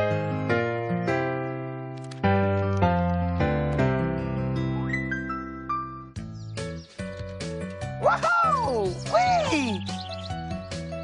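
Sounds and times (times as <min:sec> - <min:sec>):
keyboard chords: 0:00.0 - 0:11.0.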